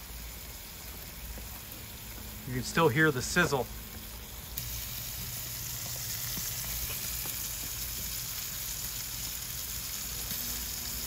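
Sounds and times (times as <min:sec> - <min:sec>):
steaks sizzling in a skillet: 0:00.0 - 0:11.0.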